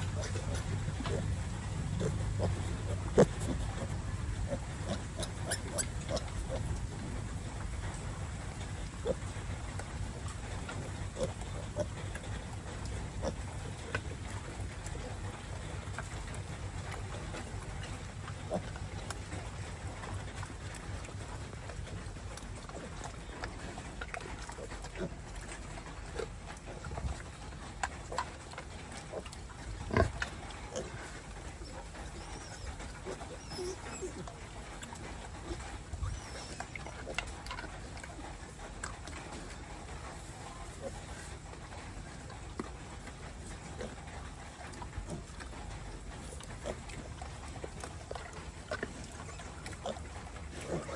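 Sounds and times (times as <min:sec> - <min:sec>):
pigs grunting and squeaking: 0:00.0 - 0:50.9.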